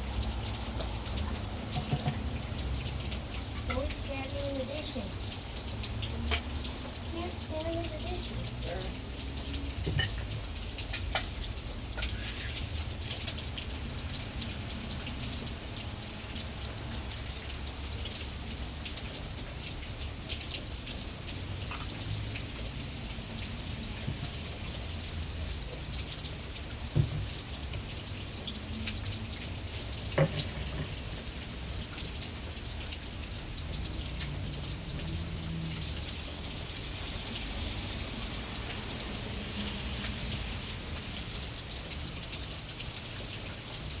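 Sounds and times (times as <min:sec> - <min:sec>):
heavy rain falling: 0:00.0 - 0:44.0
raindrops ticking on surfaces: 0:00.0 - 0:44.0.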